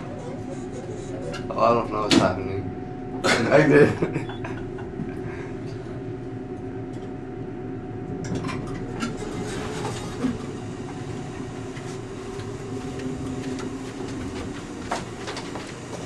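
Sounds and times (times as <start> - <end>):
elevator mechanical hum: 0.0 - 16.0.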